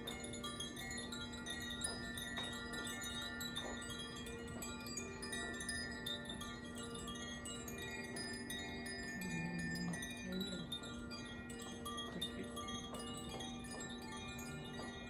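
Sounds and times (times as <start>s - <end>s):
wind chimes ringing: 0.0s - 15.0s.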